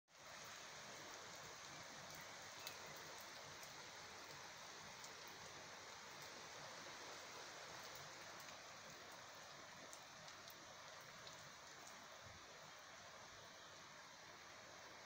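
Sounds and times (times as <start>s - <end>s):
heavy rain falling: 0.1s - 15.0s.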